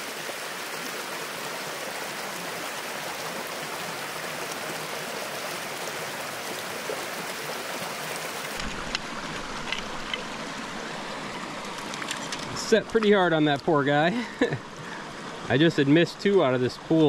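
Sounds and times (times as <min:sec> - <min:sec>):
brook flowing over rocks: 0:00.0 - 0:17.0.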